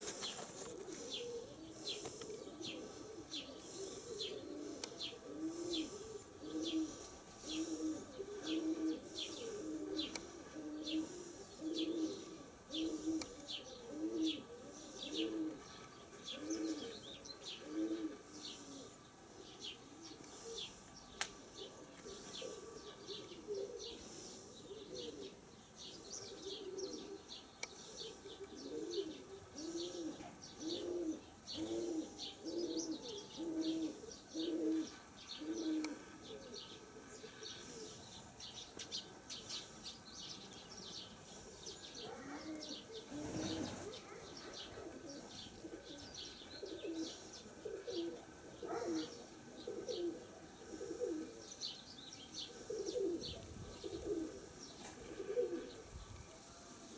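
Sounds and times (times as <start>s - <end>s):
pigeons cooing: 0.0s - 56.9s
small birds chirping: 0.0s - 56.9s.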